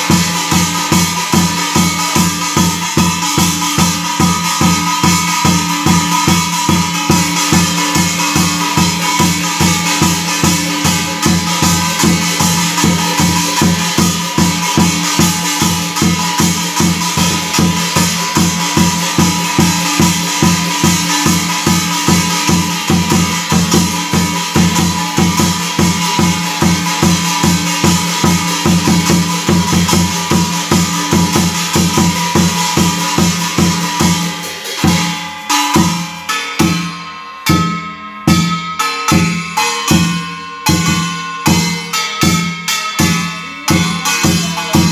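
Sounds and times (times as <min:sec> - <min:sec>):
barrel drum beating: 0:00.0 - 0:44.9
metallic gong ringing: 0:00.0 - 0:44.9.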